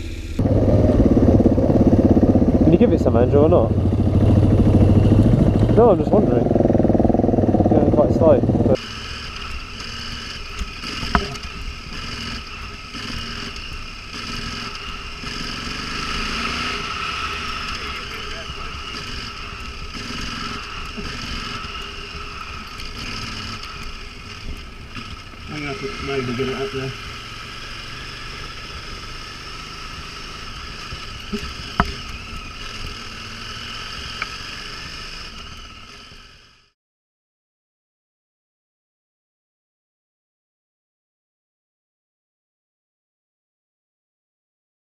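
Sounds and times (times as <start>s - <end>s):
motorcycle engine running: 0.0s - 36.7s.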